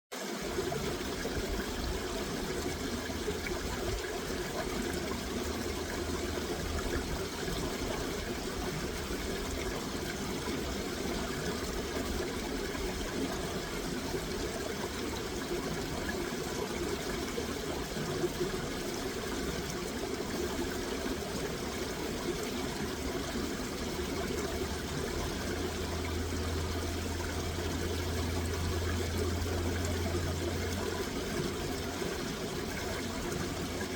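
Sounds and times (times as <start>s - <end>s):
running water trickling: 0.3s - 33.9s.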